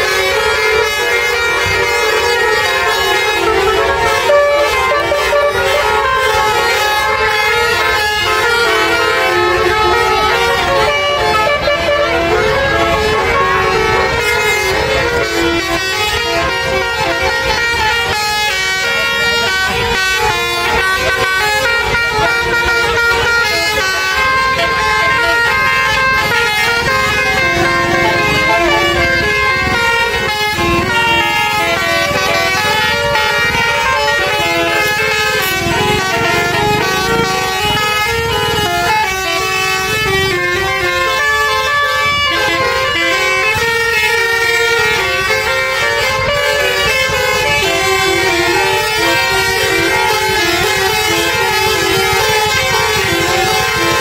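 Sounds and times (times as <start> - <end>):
bus melody horns playing: 0.0 - 54.0
crowd voices: 0.0 - 54.0.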